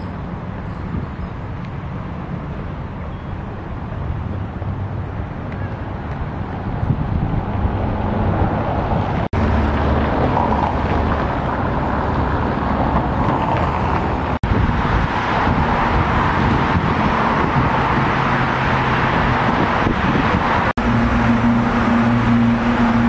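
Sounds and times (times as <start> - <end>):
motor vehicle engine rumble: 0.0 - 23.0.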